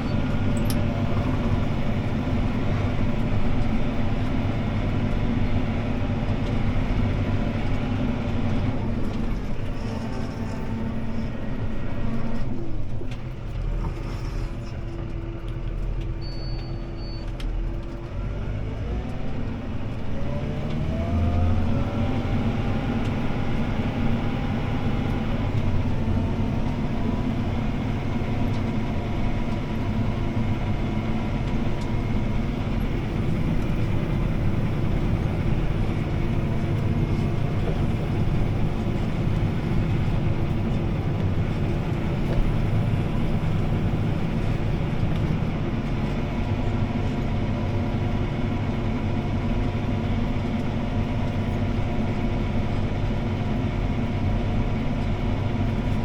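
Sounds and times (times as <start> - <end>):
tractor diesel engine from cab: 0.0 - 56.0.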